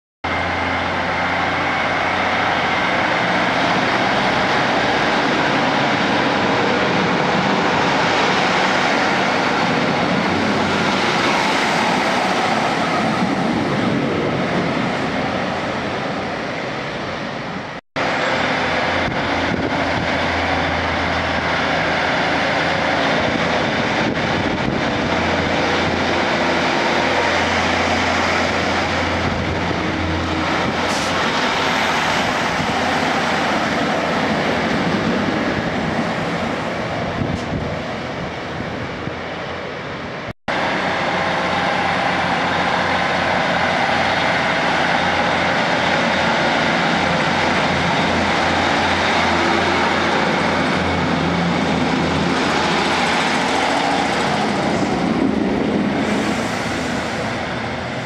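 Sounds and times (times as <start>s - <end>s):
diesel train engines: 0.2s - 58.0s
train wheels on rails: 0.3s - 58.0s.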